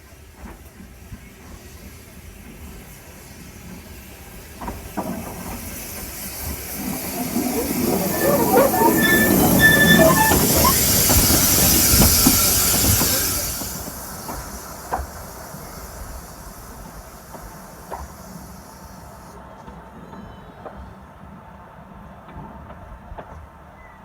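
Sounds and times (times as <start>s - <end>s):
train clanks and knocks: 0.0s - 24.0s
steam hissing: 0.2s - 19.5s
train squeals: 1.2s - 21.2s.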